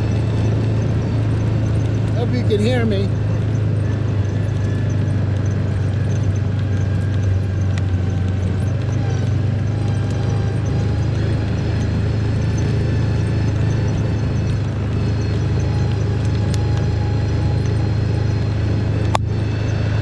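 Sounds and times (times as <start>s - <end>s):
farm vehicle engine droning: 0.0s - 20.0s.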